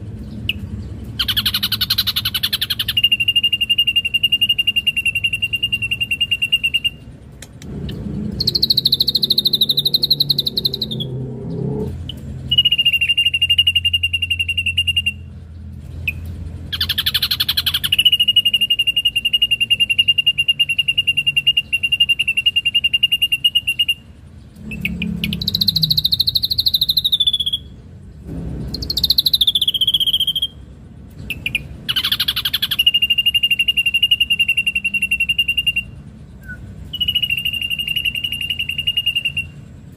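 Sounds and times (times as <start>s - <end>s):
bird singing buzzy trills: 0.0s - 39.9s.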